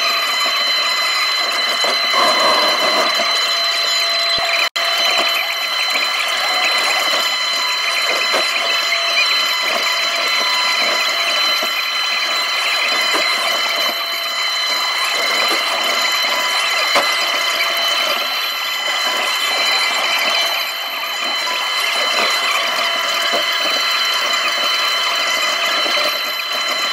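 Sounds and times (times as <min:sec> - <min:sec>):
excavator engine and hydraulics: 0:00.0 - 0:26.9
high whine: 0:00.0 - 0:26.9.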